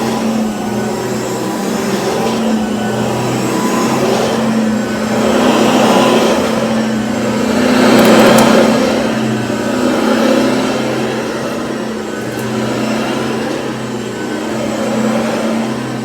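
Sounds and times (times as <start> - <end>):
stick vacuum cleaner running: 0.0 - 16.0.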